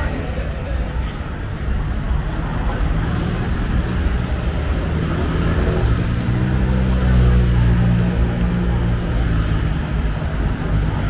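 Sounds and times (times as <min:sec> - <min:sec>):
rumble of traffic: 0:00.0 - 0:11.0.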